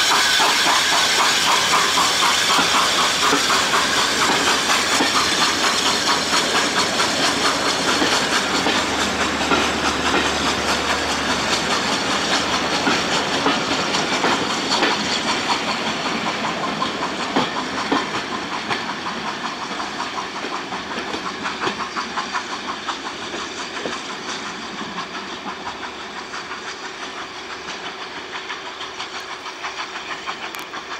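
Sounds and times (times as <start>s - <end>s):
steam hiss: 0.0s - 30.9s
carriage wheels rattling over track: 0.1s - 30.9s.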